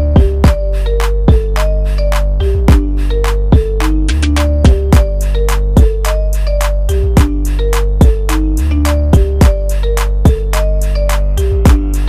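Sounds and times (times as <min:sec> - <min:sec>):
held melody line: 0:00.0 - 0:12.0.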